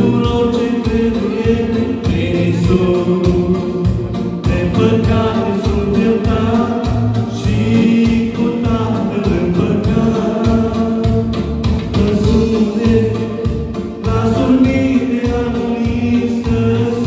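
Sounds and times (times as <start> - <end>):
amplified keyboard: 0.0 - 17.0
man singing into a microphone: 0.0 - 17.0
steady beat: 0.0 - 17.0.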